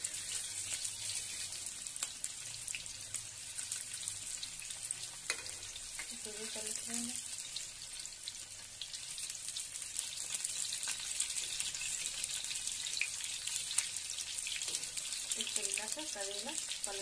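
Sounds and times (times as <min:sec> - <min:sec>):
vegetables deep-frying in oil: 0:00.0 - 0:17.0.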